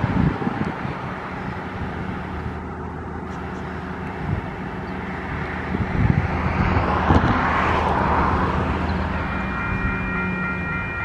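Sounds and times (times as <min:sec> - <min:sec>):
locomotive diesel engines droning: 0:00.0 - 0:11.0.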